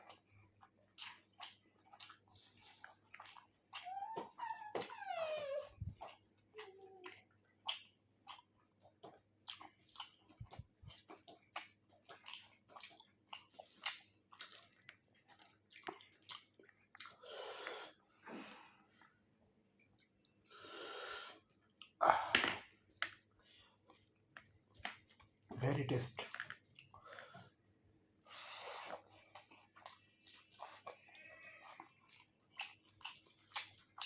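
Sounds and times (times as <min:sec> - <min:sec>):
person chewing and lip-smacking: 0:00.0 - 0:19.0, 0:21.3 - 0:25.5, 0:28.2 - 0:34.0.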